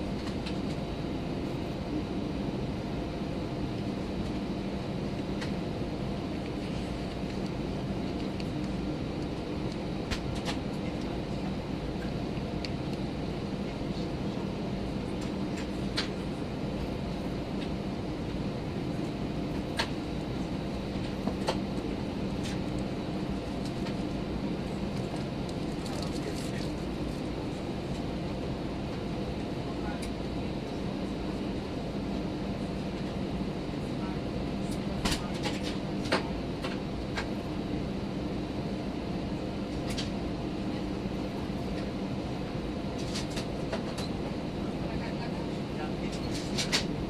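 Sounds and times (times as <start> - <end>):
airliner engines rumbling: 0.0 - 47.0
faint hum: 0.0 - 47.0.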